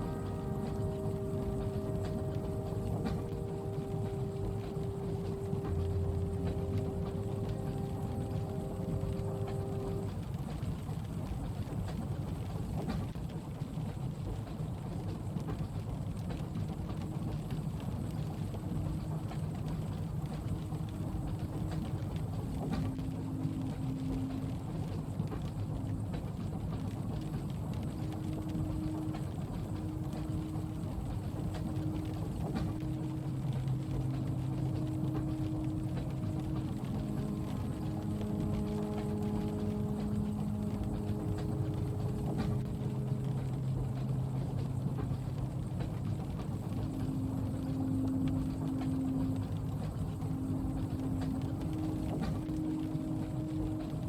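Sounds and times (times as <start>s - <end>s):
humming tone: 0.0s - 12.2s, 16.6s - 54.0s
rain on window: 0.0s - 54.0s
train running rumble: 0.0s - 54.0s.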